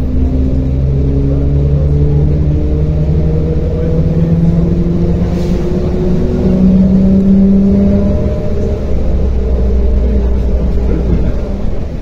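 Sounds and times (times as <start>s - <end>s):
bus engine humming: 0.0s - 12.0s.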